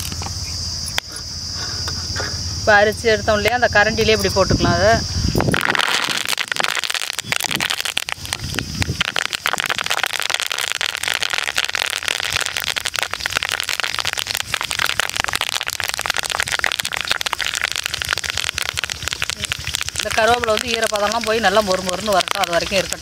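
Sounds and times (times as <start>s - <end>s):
leaves sizzling in hot oil: 1.4s - 23.0s.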